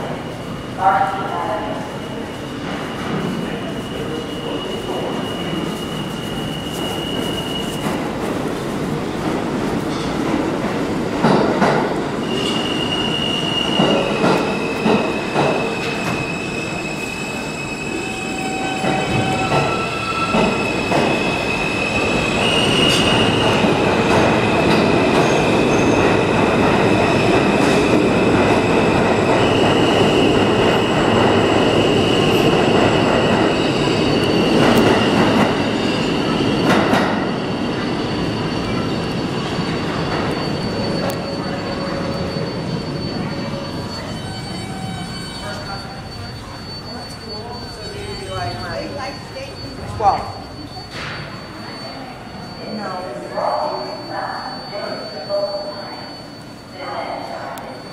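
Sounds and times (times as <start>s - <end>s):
train wheels squealing: 1.8s - 8.3s, 11.4s - 57.9s.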